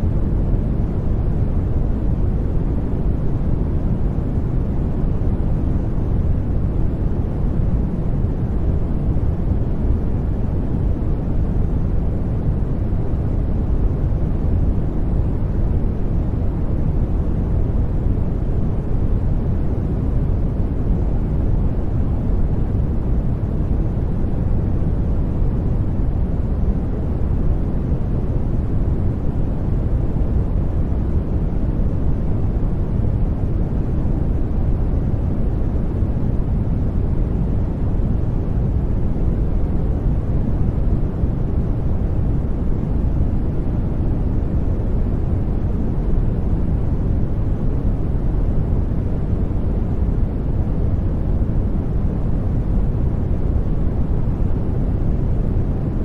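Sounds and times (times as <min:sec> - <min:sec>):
white noise rush: 0:00.0 - 0:56.0.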